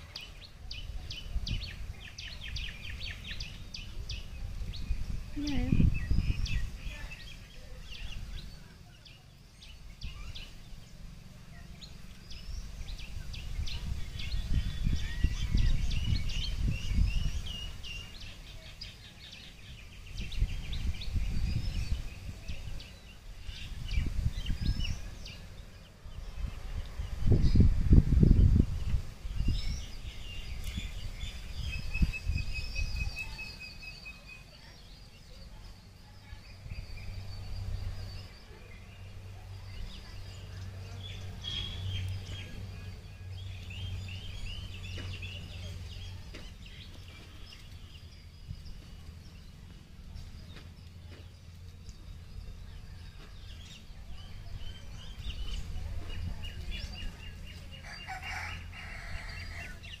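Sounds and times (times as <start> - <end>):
small birds chirping: 0.0 - 60.0.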